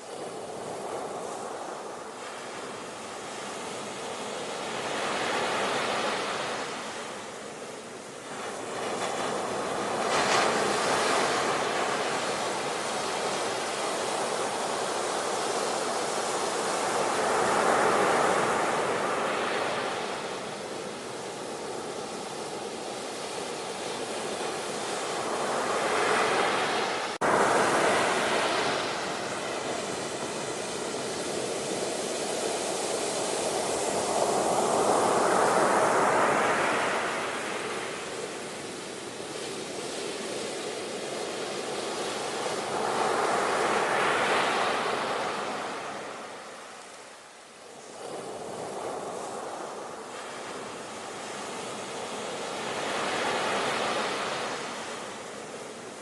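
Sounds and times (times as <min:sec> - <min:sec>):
ocean waves breaking: 0:00.0 - 0:47.2.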